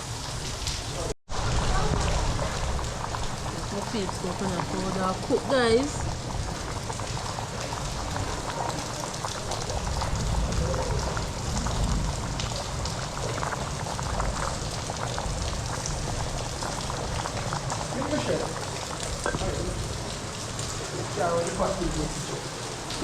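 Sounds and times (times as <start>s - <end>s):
pot boiling and bubbling: 0.0s - 23.0s
small crackles and pops: 1.8s - 20.8s.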